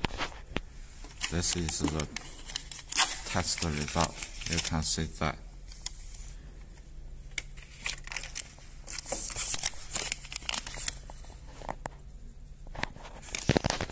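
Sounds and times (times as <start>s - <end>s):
paper rustling and crinkling: 0.0s - 5.1s, 5.7s - 11.9s, 12.7s - 13.9s.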